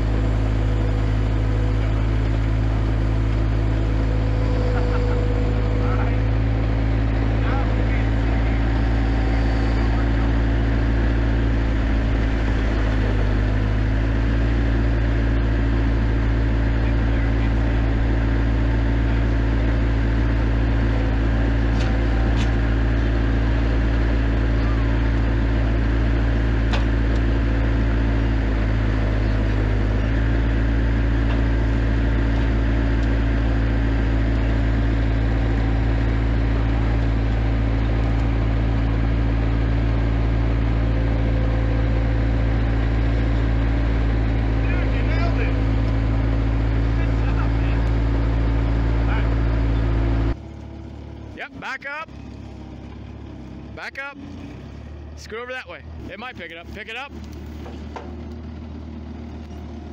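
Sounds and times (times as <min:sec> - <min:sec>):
skid steer engine droning: 0:00.0 - 0:59.9.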